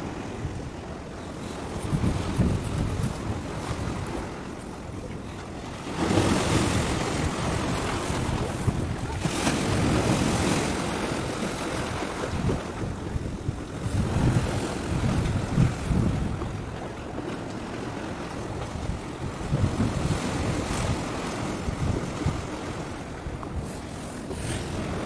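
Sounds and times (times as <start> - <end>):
sea waves: 0.0 - 25.0
wind buffeting microphone: 0.0 - 25.0.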